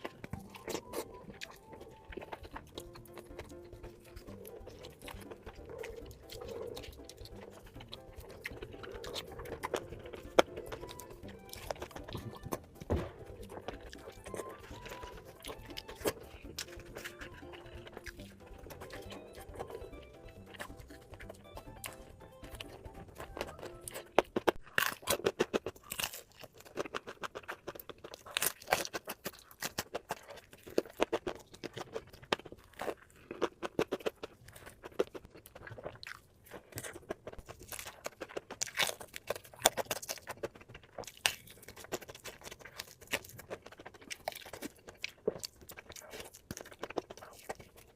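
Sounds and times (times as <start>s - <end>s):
crunching crispy food: 0.0s - 47.9s
wet chewing: 0.0s - 47.9s.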